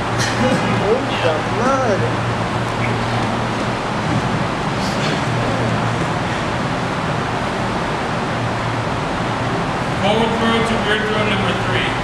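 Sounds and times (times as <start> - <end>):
low even hum: 0.0 - 12.0
steady rushing noise: 0.0 - 12.0.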